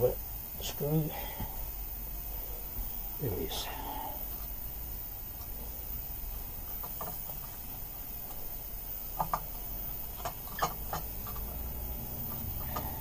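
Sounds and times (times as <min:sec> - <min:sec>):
low steady background hum: 0:00.0 - 0:13.0.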